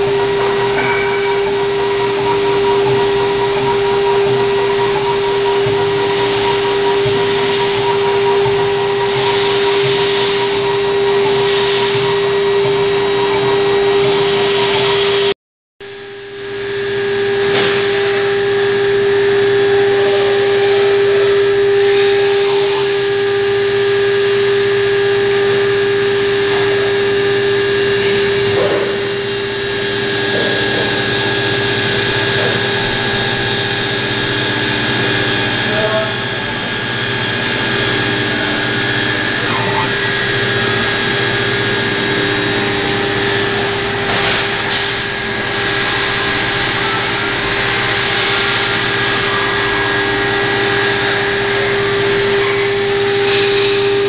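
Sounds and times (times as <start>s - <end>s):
router spindle high whine: 0.0s - 54.0s.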